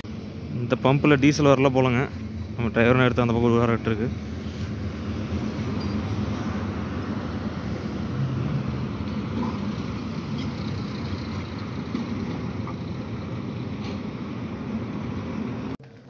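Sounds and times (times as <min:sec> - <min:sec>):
diesel lorry engine running: 0:00.0 - 0:16.0.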